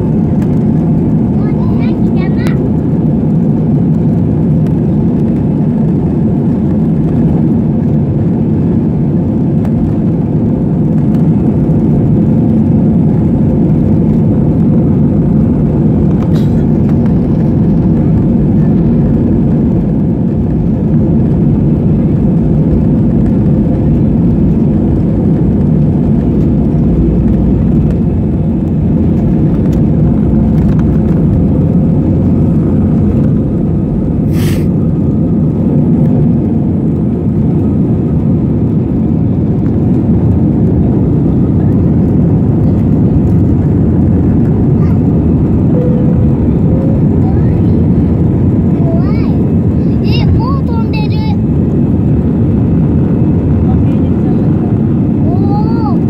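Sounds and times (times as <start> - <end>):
jet airliner cabin rumble: 0.0 - 56.0.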